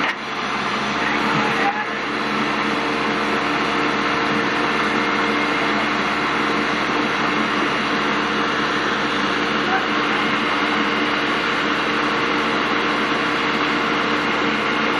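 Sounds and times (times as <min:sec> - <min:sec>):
diesel engine running steadily: 0:00.0 - 0:14.9.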